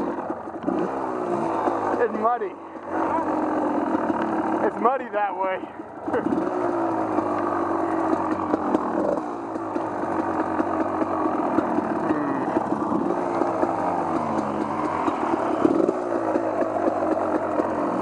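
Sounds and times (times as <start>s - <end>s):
off-road vehicle engine: 0.0s - 18.0s.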